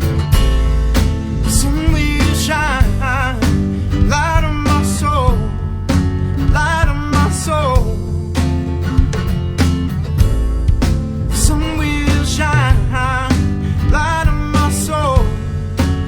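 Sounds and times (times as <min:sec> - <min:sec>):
drum kit playing: 0:00.0 - 0:16.0
rock band recording: 0:00.0 - 0:16.0.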